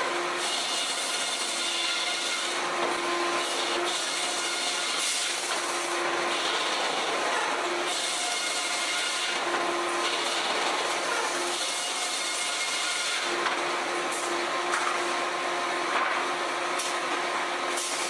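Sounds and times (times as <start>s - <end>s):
band saw cutting log: 0.0s - 18.0s.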